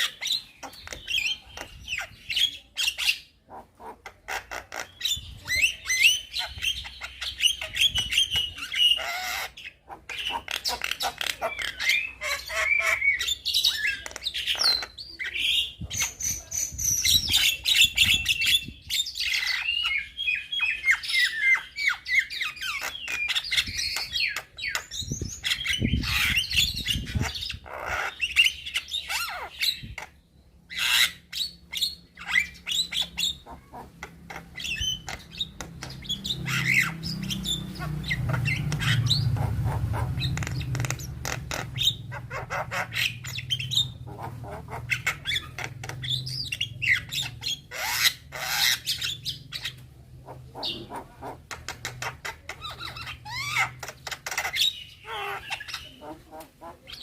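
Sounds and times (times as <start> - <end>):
bird chattering and whistling: 0.0 - 57.0.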